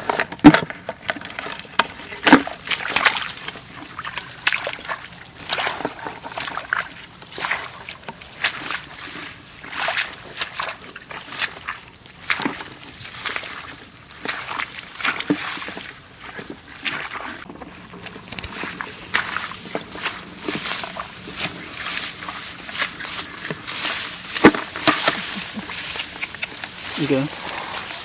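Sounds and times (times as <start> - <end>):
shallow water splashing: 1.5 - 28.0.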